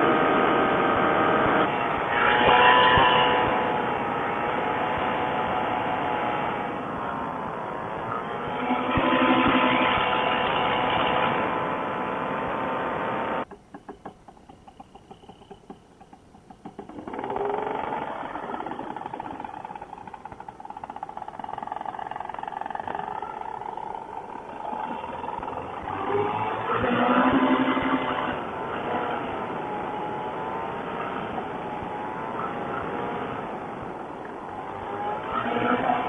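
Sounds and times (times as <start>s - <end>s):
paramotor engine running: 0.0s - 36.0s.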